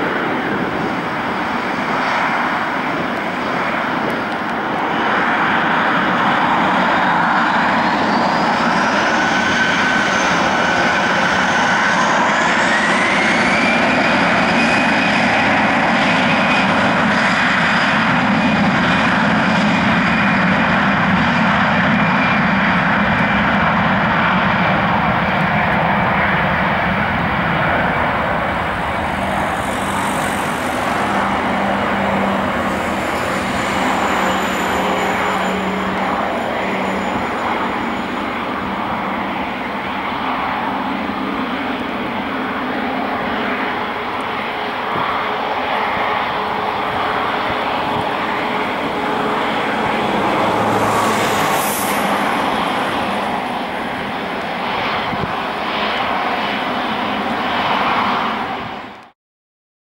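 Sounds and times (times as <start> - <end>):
jet engines roaring on take-off: 0.0 - 59.2.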